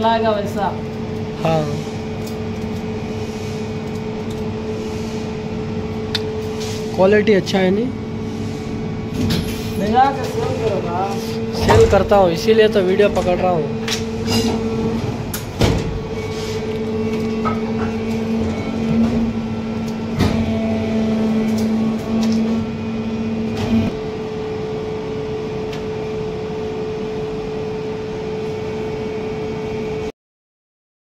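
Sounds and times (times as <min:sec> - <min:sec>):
machine mechanical hum: 0:00.0 - 0:30.1.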